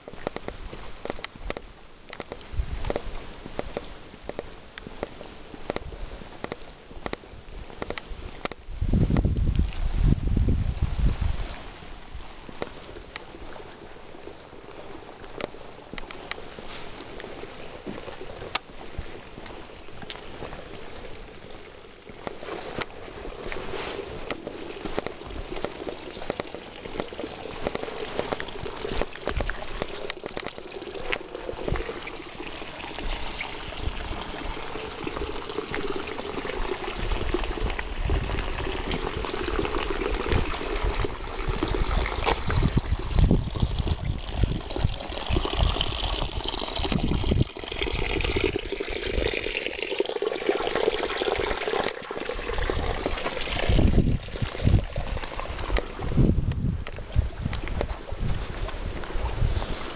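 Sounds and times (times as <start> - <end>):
rain with water pouring: 0.0 - 59.9.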